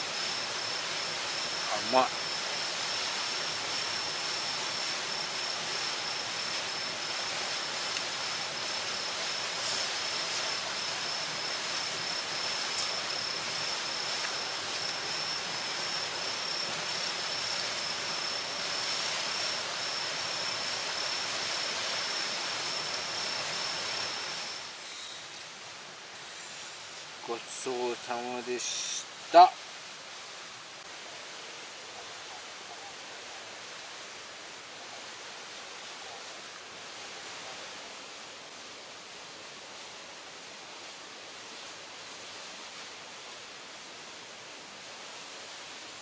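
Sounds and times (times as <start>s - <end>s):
steady rushing hiss: 0.0s - 46.0s.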